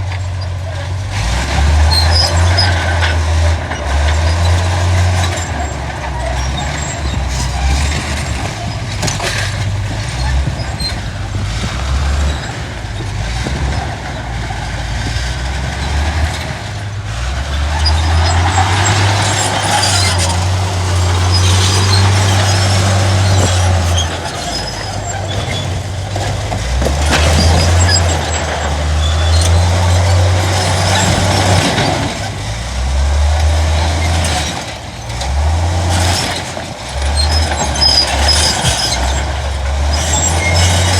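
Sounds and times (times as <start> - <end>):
heavy diesel engines working: 0.0 - 40.9
rattling and clanks: 0.0 - 40.9.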